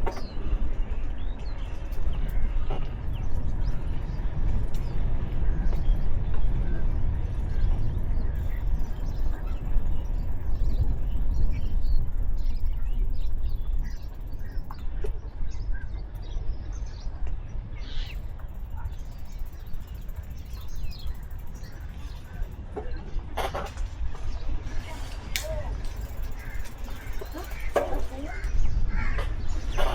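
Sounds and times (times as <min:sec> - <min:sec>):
birds chirping: 0:00.0 - 0:29.9
wind rumbling on microphone: 0:00.0 - 0:29.9.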